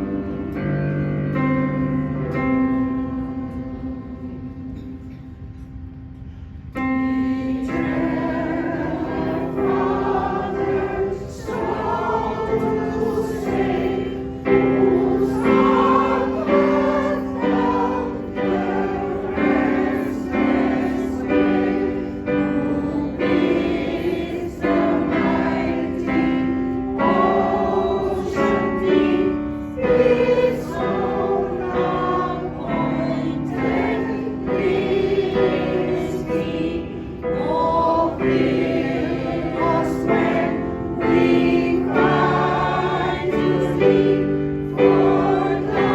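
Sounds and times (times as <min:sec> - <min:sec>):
choir singing: 0:00.0 - 0:01.2, 0:07.2 - 0:45.9.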